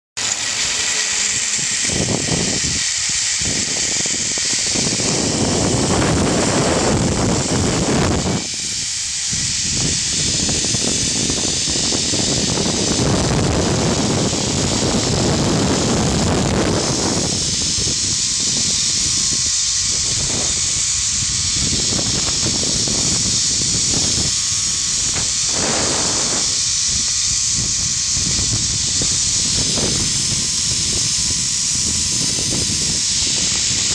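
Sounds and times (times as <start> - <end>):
zip line pulleys hissing on cable: 0.2 - 33.9
wind buffeting microphone: 1.2 - 33.9.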